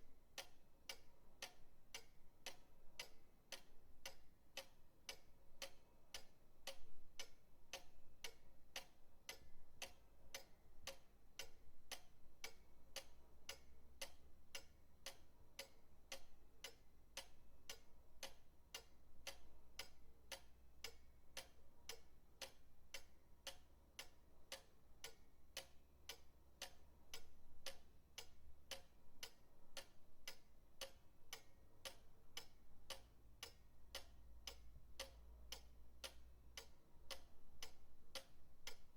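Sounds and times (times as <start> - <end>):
pendulum clock ticking: 0.0 - 38.9.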